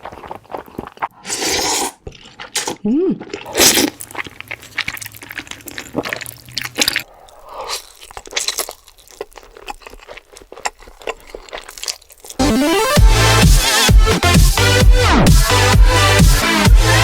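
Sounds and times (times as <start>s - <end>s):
person chewing and crunching food: 0.0s - 14.8s.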